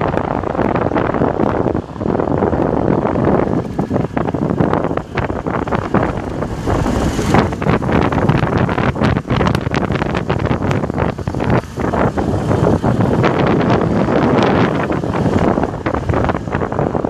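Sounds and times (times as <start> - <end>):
motorbike engine and road noise: 0.0 - 17.0
wind buffeting microphone: 0.0 - 17.0.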